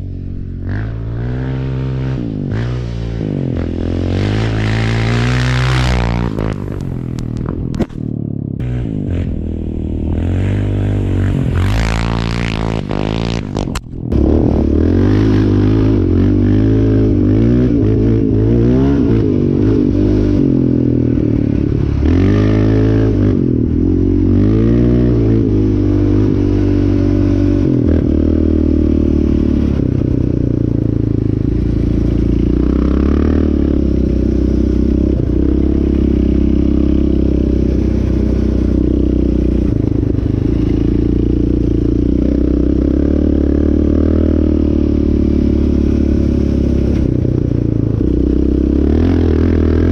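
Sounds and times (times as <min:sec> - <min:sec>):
atv engine revving: 0:00.0 - 0:49.9.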